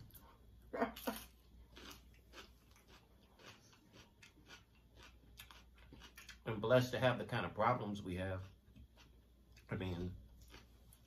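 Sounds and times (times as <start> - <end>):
chewing with crunches: 0.0 - 6.6, 7.9 - 11.0.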